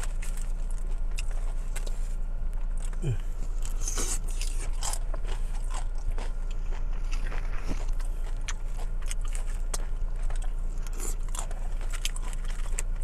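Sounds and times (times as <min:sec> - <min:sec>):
person chewing and crunching: 0:00.0 - 0:13.0.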